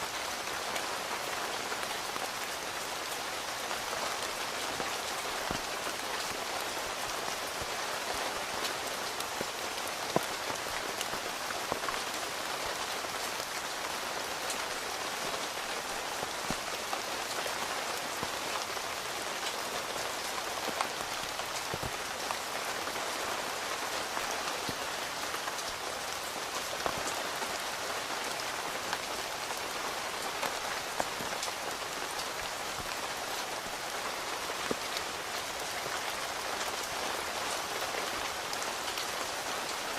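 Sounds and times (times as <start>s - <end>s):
rain on tent fabric: 0.0s - 39.9s.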